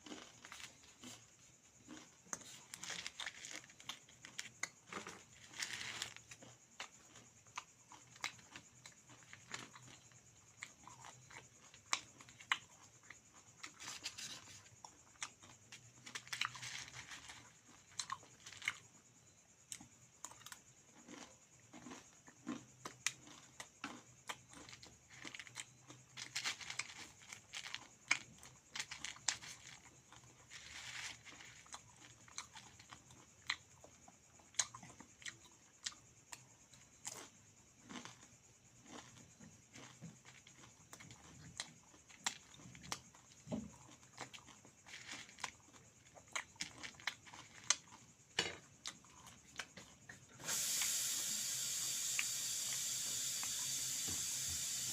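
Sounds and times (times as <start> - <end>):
person chewing and crunching food: 0.0 - 54.9.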